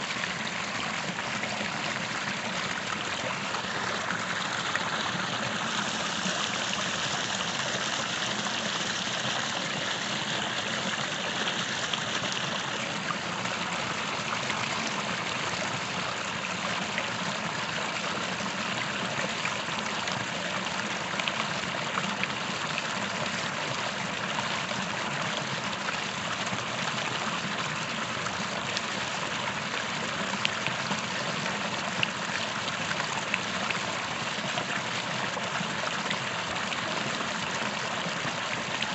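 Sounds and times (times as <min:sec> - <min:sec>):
creek water rushing over stones: 0:00.0 - 0:38.9.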